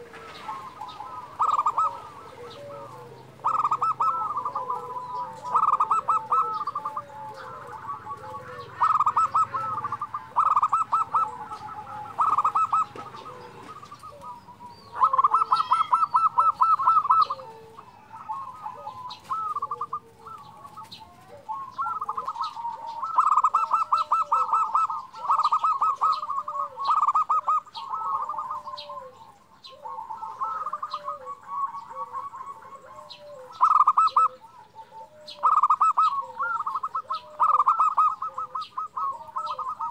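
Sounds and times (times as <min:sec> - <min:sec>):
dove singing and cooing: 0:00.0 - 0:39.9
small birds chirping faintly: 0:00.0 - 0:39.9.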